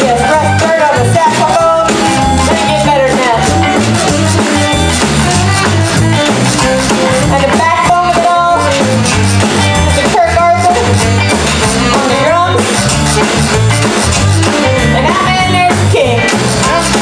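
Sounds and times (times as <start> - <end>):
saxophone: 0.0 - 14.9
bass: 0.0 - 17.0
drums: 0.0 - 17.0
electric guitar: 0.0 - 17.0.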